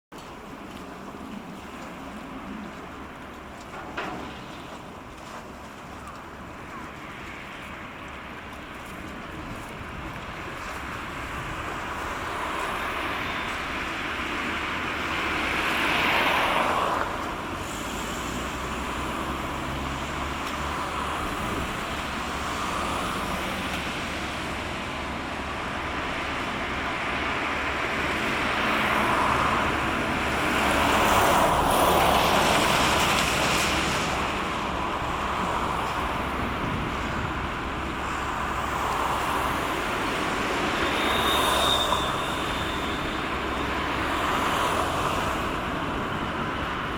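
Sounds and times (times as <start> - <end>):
vehicles passing: 0.2 - 46.9.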